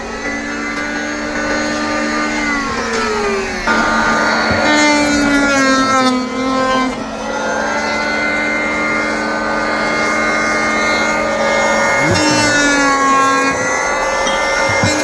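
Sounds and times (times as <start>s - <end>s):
electric hand planer motor whine: 0.0s - 15.0s.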